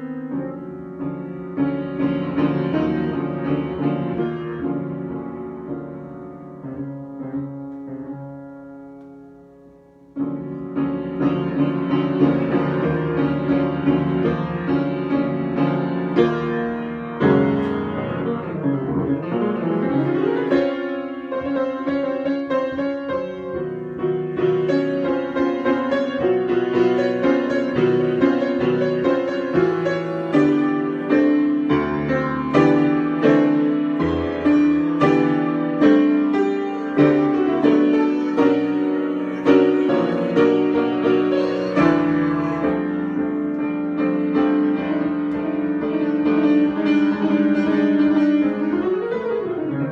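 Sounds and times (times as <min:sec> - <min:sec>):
solo piano: 0:00.0 - 0:49.9.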